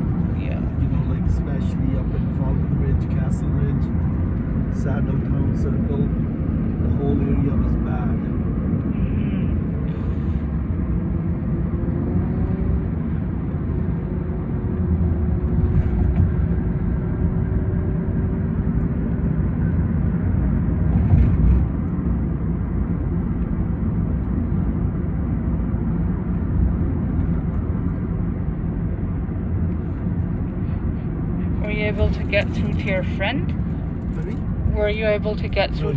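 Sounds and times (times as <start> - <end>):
road and engine rumble inside car: 0.0 - 35.9.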